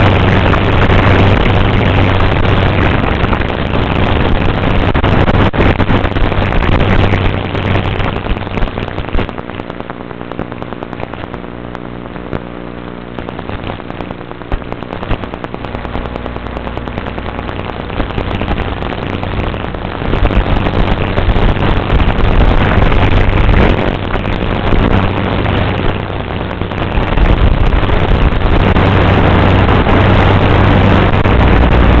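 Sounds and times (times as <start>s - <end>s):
rattling and rubbing noise: 0.0s - 32.0s.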